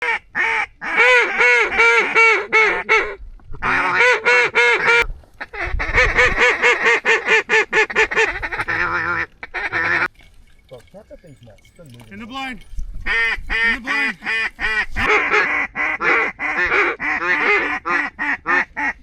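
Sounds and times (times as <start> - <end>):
duck call quacks: 0.0 - 10.1, 13.1 - 19.0.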